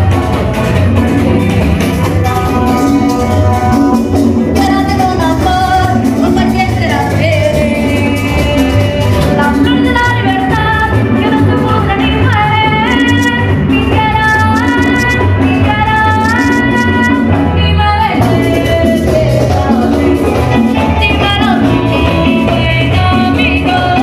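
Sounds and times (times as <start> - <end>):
bass guitar: 0.0 - 24.0
congas: 0.0 - 24.0
drums: 0.0 - 24.0
woman singing: 2.4 - 24.0.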